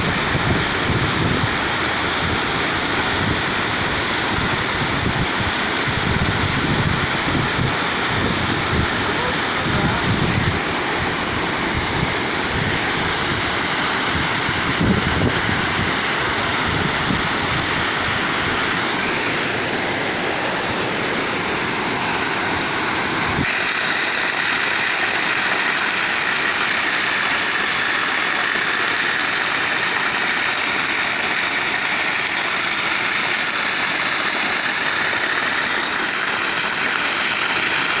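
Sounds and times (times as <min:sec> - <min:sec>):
running water rushing: 0:00.0 - 0:38.0.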